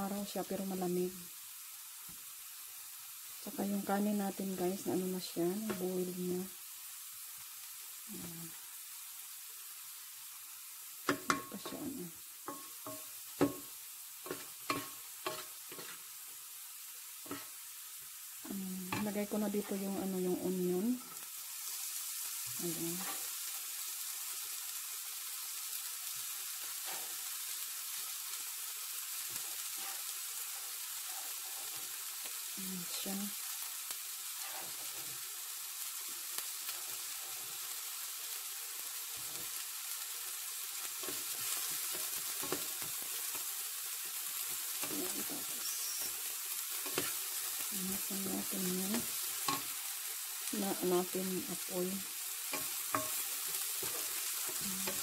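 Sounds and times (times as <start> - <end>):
potatoes sizzling in hot oil: 0.0 - 55.0.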